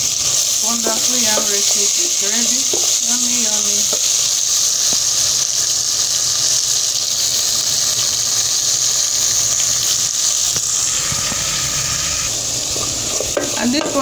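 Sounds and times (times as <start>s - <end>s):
sauce sizzling in a pot: 0.0s - 14.0s.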